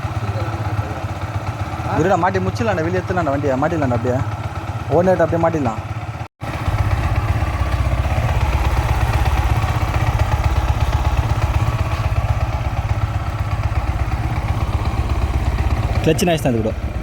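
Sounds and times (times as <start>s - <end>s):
light clutch rattle: 0.0s - 17.0s
motorcycle engine idling: 0.0s - 17.0s.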